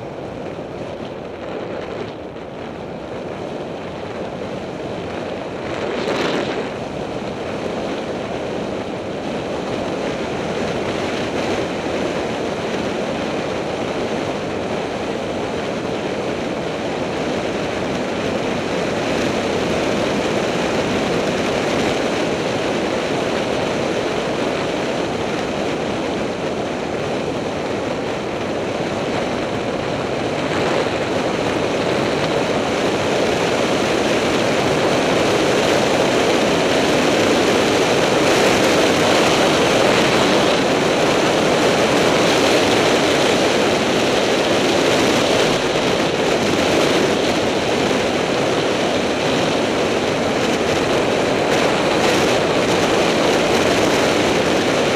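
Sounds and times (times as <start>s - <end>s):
wind roaring over microphone: 0.0s - 54.9s.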